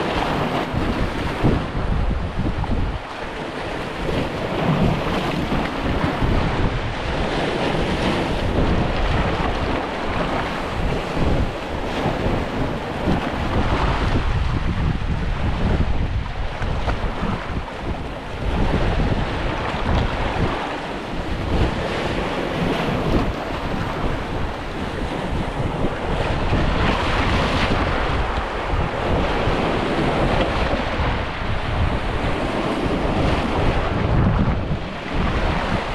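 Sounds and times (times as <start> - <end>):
sea waves: 0.0 - 35.9
wind buffeting microphone: 0.0 - 35.9.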